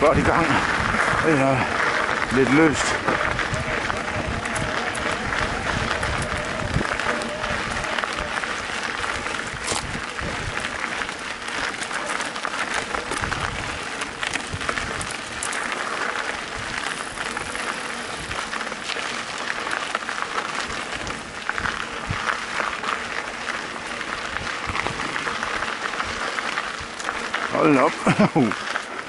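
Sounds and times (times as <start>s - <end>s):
bike tyres crunching on gravel: 0.0s - 29.0s
stones and bike rattling: 0.0s - 29.0s.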